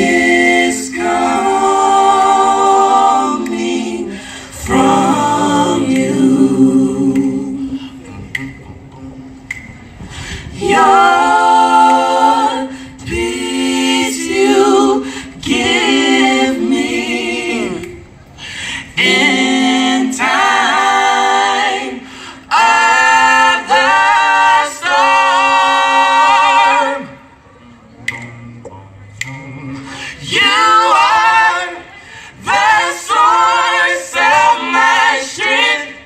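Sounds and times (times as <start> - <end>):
a cappella group singing: 0.0 - 27.5, 28.1 - 36.0.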